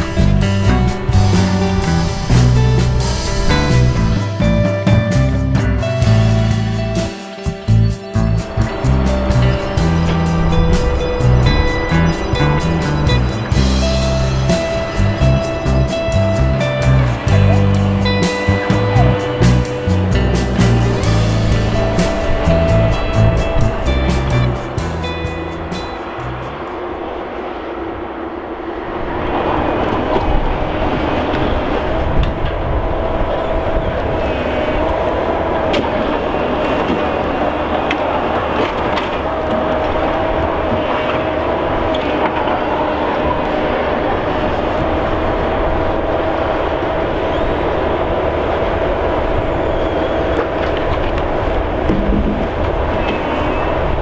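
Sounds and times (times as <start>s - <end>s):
heavy diesel machinery running: 0.0s - 54.0s
steady whine: 0.0s - 54.0s.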